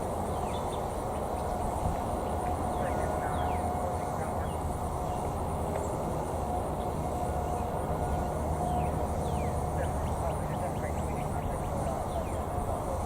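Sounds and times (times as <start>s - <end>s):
birds chirping: 0.3s - 13.0s.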